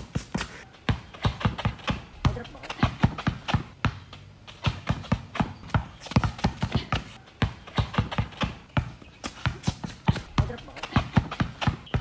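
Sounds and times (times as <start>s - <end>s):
basketball bouncing on concrete: 0.0s - 12.0s.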